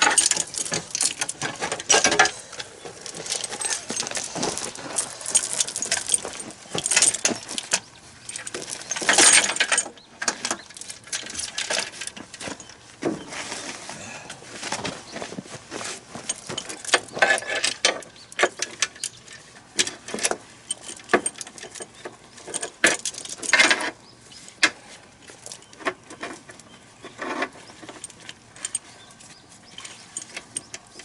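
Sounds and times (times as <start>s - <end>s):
metal tools and bolts clinking: 0.0s - 12.8s, 16.2s - 24.7s, 25.3s - 31.0s.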